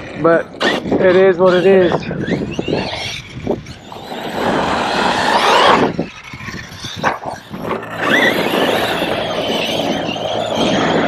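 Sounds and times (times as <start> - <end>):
electric motor whining: 0.0 - 11.0
wind rumble on microphone: 0.0 - 11.0.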